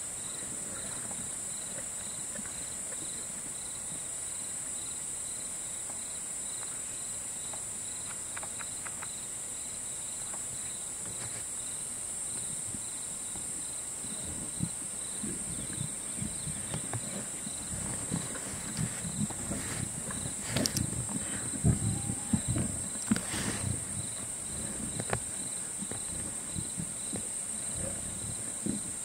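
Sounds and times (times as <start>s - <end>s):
cricket chirping: 0.0s - 29.0s
insect chorus buzzing: 0.0s - 29.0s.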